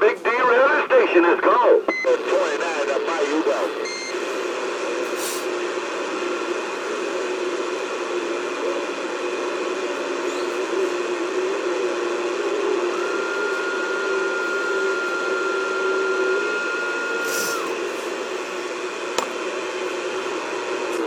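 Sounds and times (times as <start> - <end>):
radio static hiss: 0.0 - 19.5.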